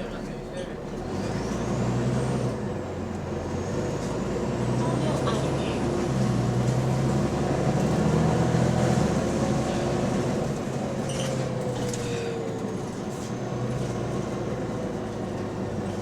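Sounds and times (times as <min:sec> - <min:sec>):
bus engine with exhaust leak: 0:00.0 - 0:16.0.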